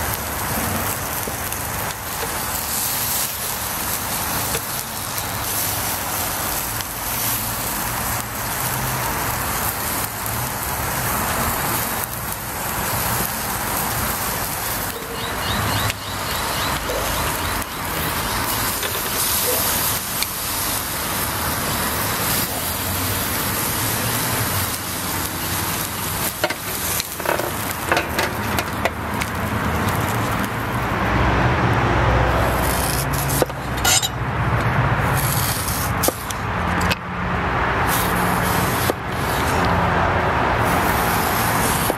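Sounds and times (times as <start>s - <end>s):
meat sizzling over charcoal: 0.0s - 41.9s.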